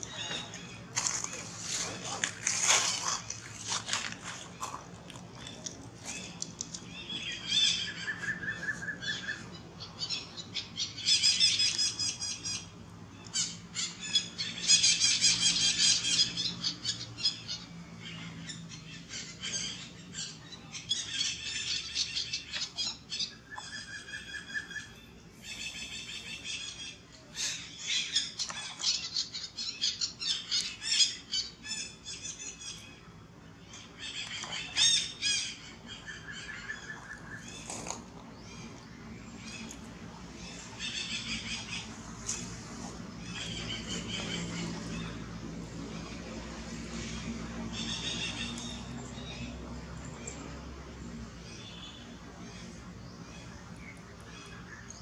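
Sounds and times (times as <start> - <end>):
birds squawking and chattering: 0.0 - 55.0.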